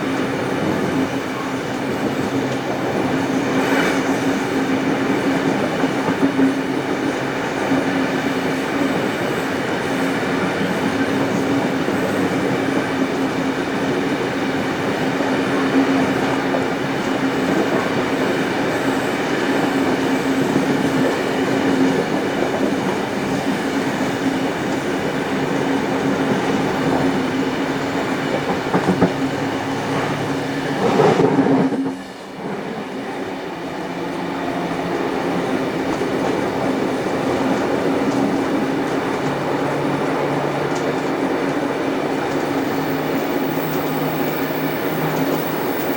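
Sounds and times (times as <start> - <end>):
train clickety-clack: 0.0 - 45.9
train wheels rumbling on rails: 0.0 - 45.9.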